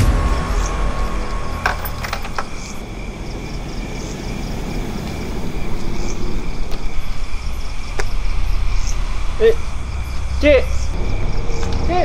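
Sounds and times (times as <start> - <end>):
distant traffic rumble: 0.0 - 12.0
insects chirping: 0.0 - 12.0.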